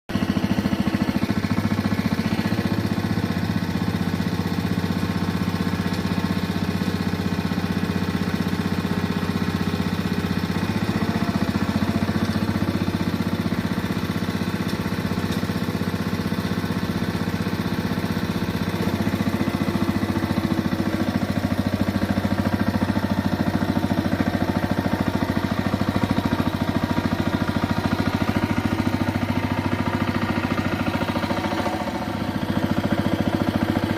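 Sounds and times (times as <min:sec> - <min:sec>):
diesel engine chugging: 0:00.1 - 0:33.9.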